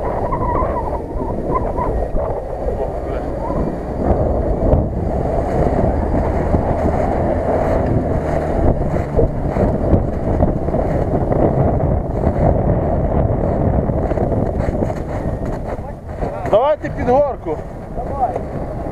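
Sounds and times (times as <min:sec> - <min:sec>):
car engine running: 0:00.0 - 0:18.9
wind buffeting microphone: 0:00.0 - 0:18.9.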